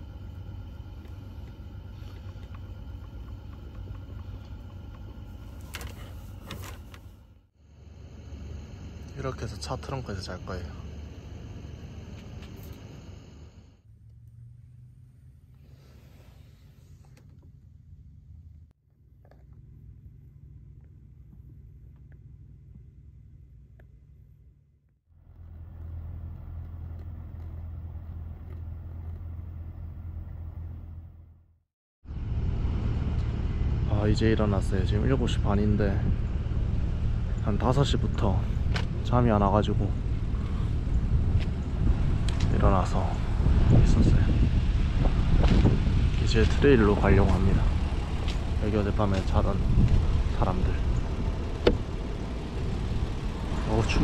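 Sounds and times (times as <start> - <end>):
low mechanical hum: 0.0 - 24.6, 32.1 - 54.0.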